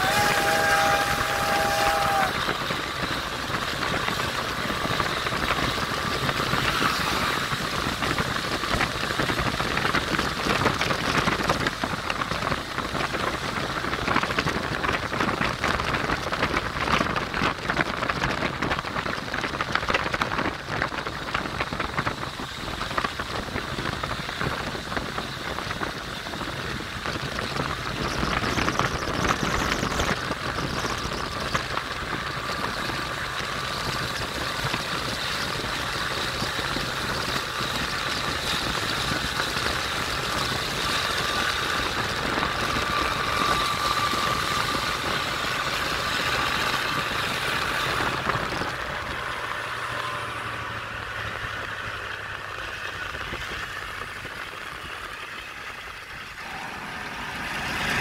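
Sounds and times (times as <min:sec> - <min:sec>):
wind and road noise inside car: 0:00.0 - 0:58.0.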